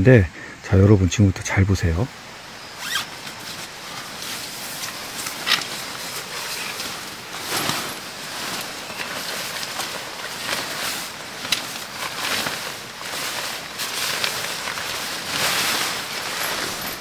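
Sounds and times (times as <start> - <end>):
fabric rustling and unfolding: 2.8 - 17.0
fabric swishes: 2.9 - 17.0.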